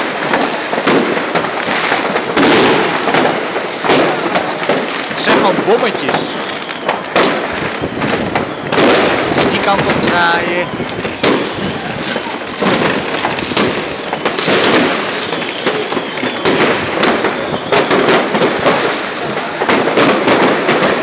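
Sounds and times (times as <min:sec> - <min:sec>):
fireworks crackling and popping: 0:00.0 - 0:21.0
loud firework bangs: 0:00.0 - 0:21.0.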